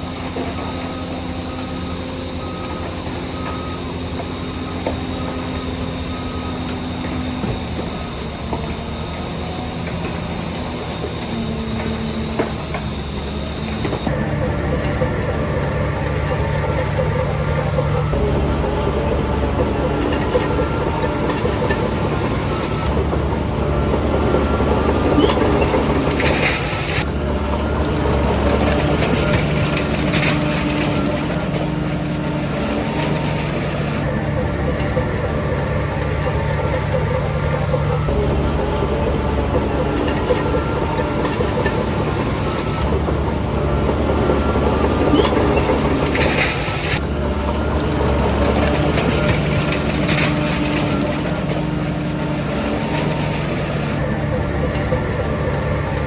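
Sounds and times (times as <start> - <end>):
diesel engine running: 0.0 - 56.0
rattling clatter: 0.0 - 56.0.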